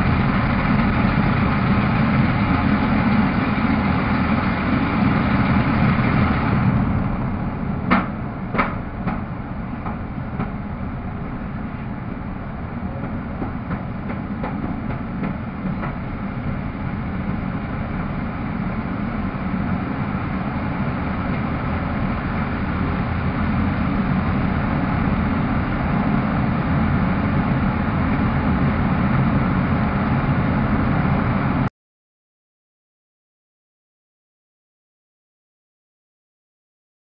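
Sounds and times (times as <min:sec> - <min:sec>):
airplane engine and propeller: 0:00.0 - 0:31.7.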